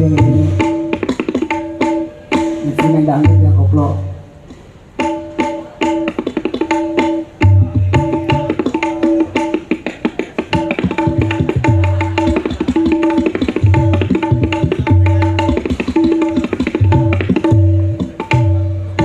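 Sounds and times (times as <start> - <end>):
hand drums fast rhythm: 0.0 - 3.8, 5.0 - 19.0.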